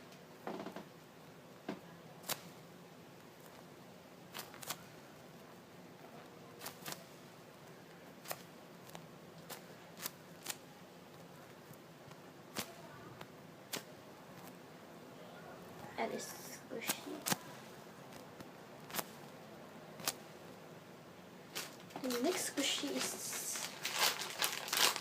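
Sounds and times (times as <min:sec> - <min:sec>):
faint hiss: 0:00.0 - 0:25.0.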